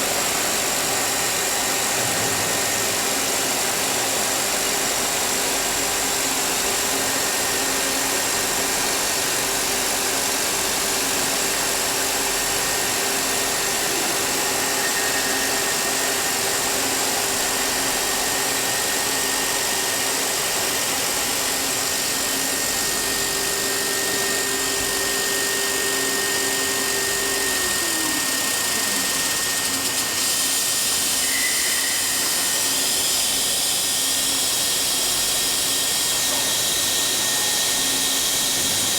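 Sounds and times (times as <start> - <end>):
milling machine hissing and whining: 0.0 - 38.9.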